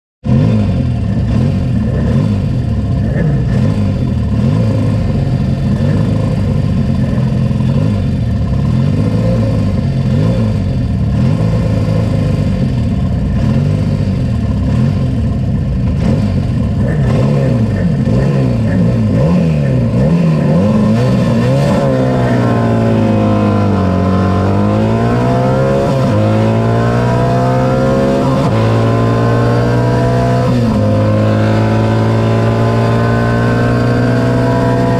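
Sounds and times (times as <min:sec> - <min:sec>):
other engines running: 0:00.2 - 0:34.9
sidecar engine revving: 0:00.2 - 0:34.9.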